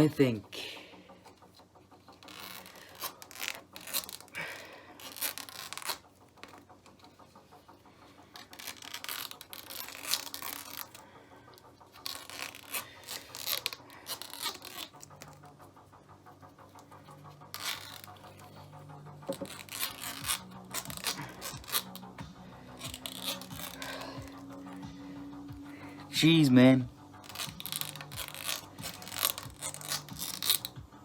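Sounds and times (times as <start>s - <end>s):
tape being ripped off: 1.3s - 26.1s, 27.1s - 30.8s.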